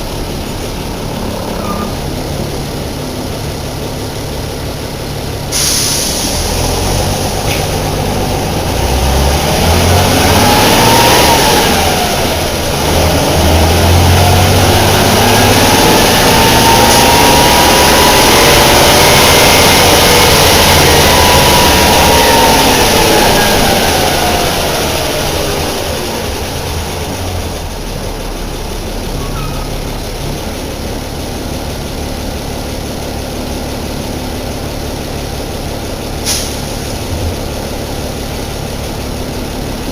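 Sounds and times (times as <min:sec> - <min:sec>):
bus diesel engine revving: 0:00.0 - 0:39.9.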